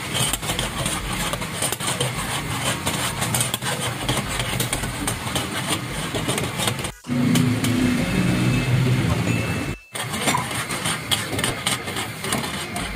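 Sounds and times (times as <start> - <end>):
chicken deep-frying in oil: 0.0 - 12.9
gas burners roaring: 0.0 - 12.9.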